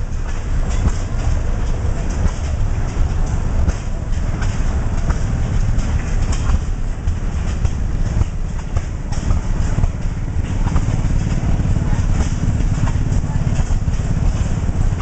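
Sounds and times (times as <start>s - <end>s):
oil engine running: 0.0s - 15.0s.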